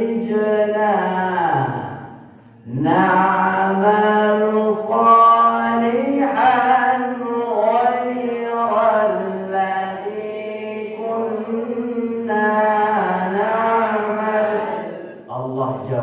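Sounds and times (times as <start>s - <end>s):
man chanting melodic recitation: 0.0s - 16.0s.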